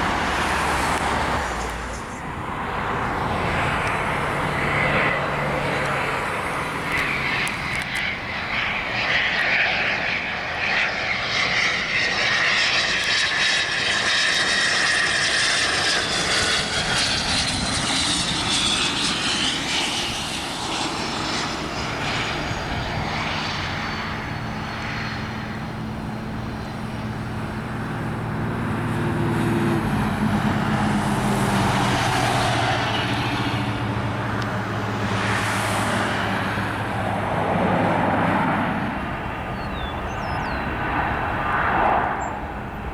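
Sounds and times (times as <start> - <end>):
high turbine whine: 0.0 - 42.9
jet engines rushing: 0.0 - 42.9
low steady engine hum: 0.0 - 42.9.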